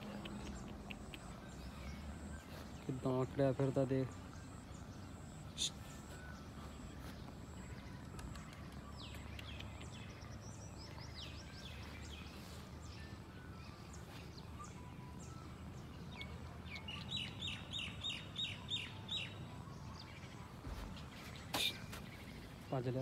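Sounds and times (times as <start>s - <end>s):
bird chirps: 0.0s - 23.0s.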